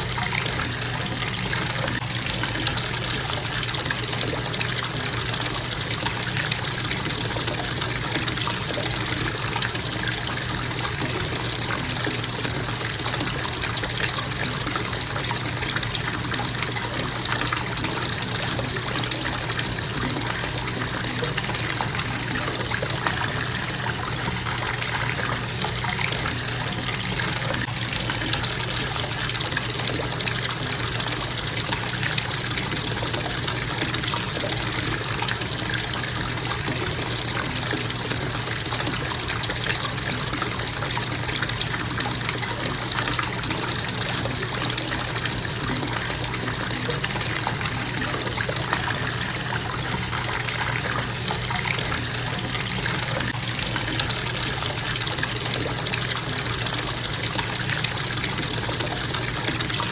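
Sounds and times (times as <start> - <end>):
faucet water pouring into tub: 0.0 - 59.9.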